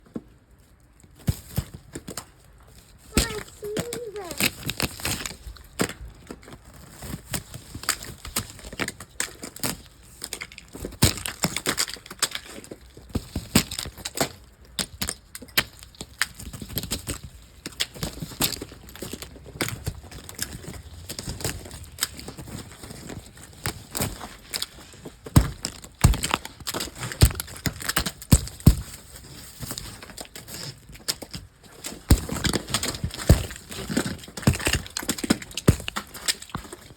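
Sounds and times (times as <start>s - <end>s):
crunching and crackling clicks: 0.2s - 36.9s.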